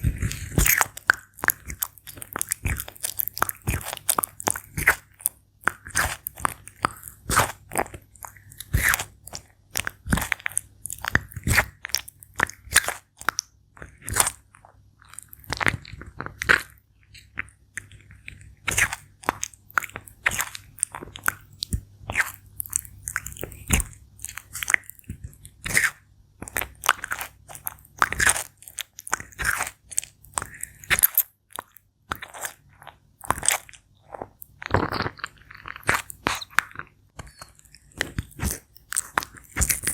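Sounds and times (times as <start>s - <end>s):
tortoise chewing crunchy food: 0.0s - 39.9s.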